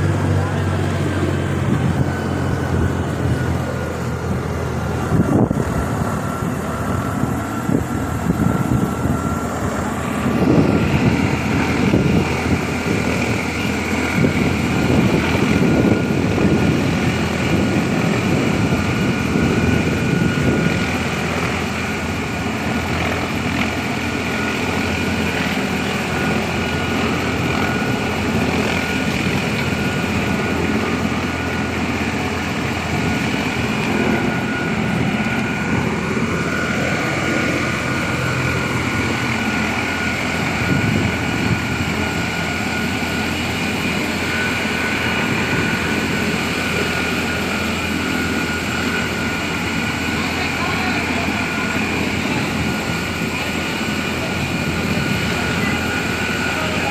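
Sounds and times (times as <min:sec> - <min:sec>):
heavy machinery droning: 0:00.0 - 0:56.9.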